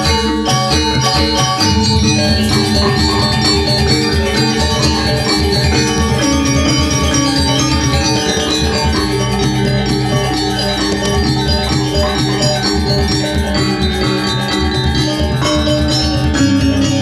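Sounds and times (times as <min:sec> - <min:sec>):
gamelan gong ensemble: 0:00.0 - 0:17.0.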